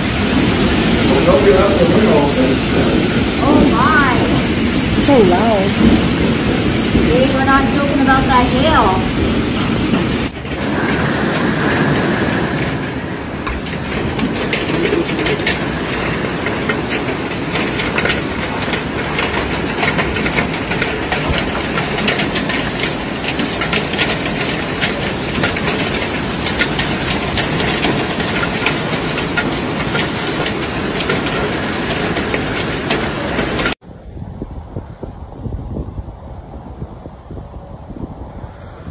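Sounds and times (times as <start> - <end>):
hailstones clicking on cars: 0.0 - 33.8
heavy rain roaring: 0.0 - 38.9.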